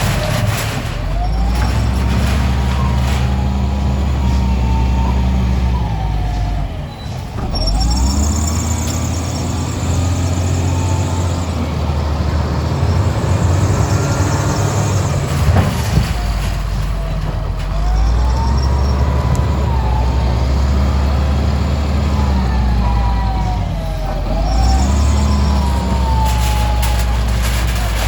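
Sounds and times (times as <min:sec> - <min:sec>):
heavy engine under load: 0:00.0 - 0:28.0.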